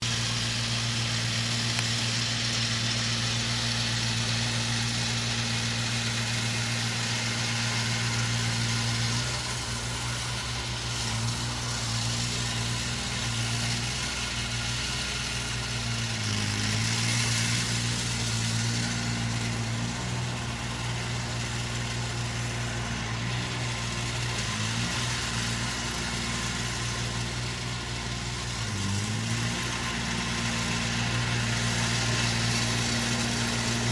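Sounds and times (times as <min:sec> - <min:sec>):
machine engine droning: 0:00.0 - 0:33.9.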